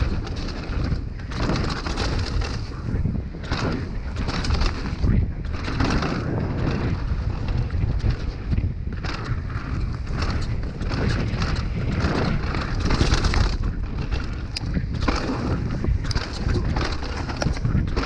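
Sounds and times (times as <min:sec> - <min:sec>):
bike chain and parts rattling: 0:00.0 - 0:18.0
tyres rumbling over dirt: 0:00.0 - 0:18.0
wind buffeting microphone: 0:00.0 - 0:18.0.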